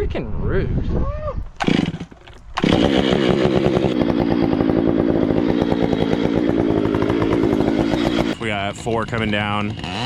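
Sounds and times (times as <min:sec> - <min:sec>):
chainsaw engine running: 0:01.6 - 0:10.0.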